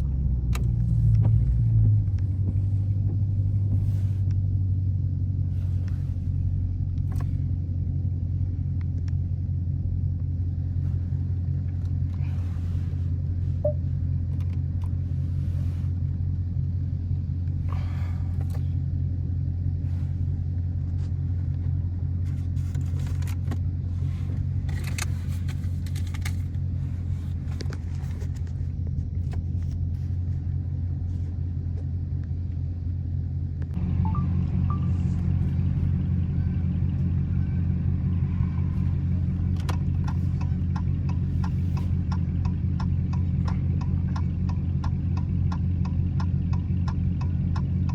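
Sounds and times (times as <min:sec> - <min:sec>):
engine low rumble: 0:00.0 - 0:47.9.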